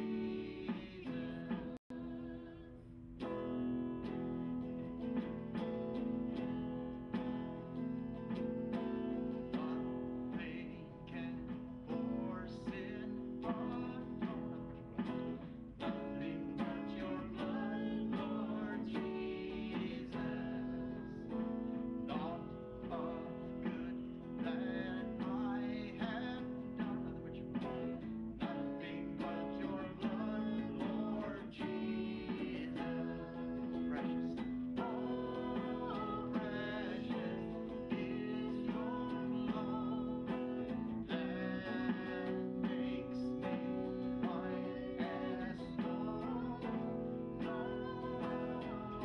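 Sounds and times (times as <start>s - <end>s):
guitar music: 0.0s - 49.0s.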